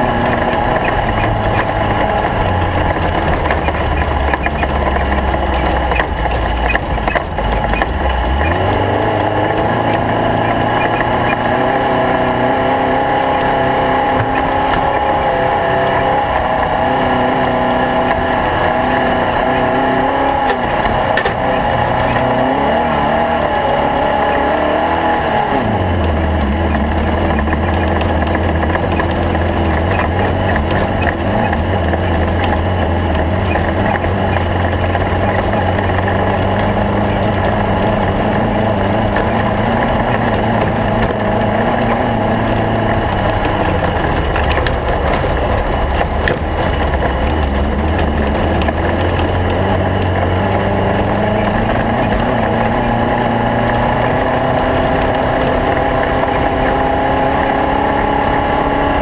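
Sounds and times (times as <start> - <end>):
race car engine running: 0.0 - 59.0
rough noise: 0.0 - 59.0.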